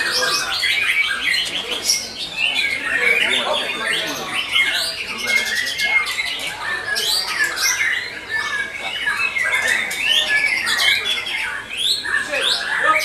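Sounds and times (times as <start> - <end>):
caged songbirds singing: 0.0 - 13.0.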